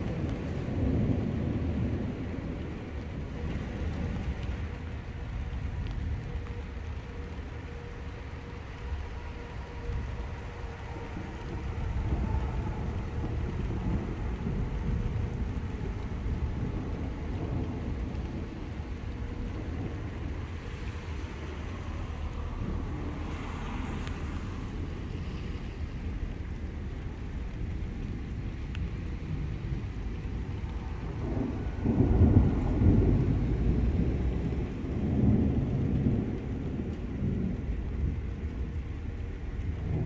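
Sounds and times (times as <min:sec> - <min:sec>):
low rumble of thunder: 0:00.0 - 0:40.0
rain: 0:00.0 - 0:40.0.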